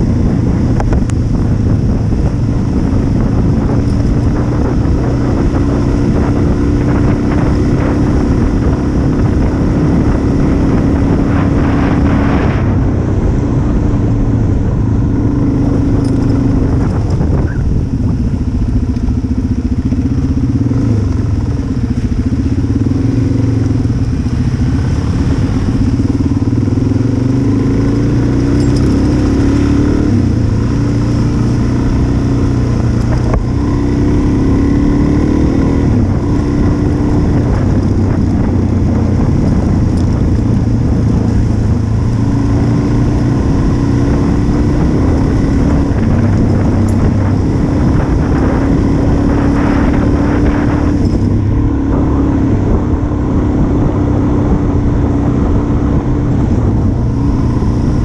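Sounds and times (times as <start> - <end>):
motorcycle engine revving: 0.0 - 58.0
wind and tyre noise: 0.0 - 58.0.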